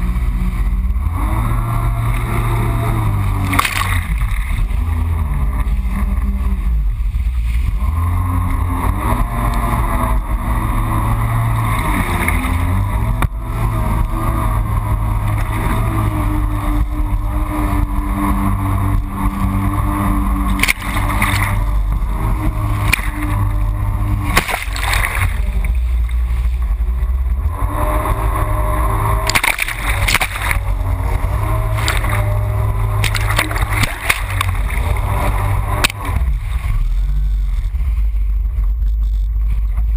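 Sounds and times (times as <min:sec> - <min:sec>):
jet ski engine running: 0:00.0 - 0:39.9
water rushing and splashing: 0:00.0 - 0:39.9.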